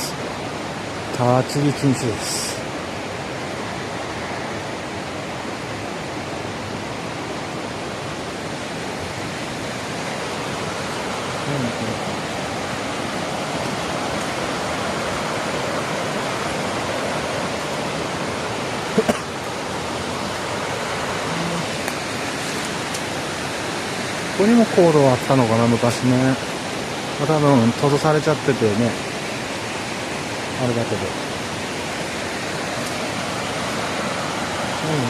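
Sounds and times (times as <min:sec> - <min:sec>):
flowing water rushing: 0:00.0 - 0:35.0.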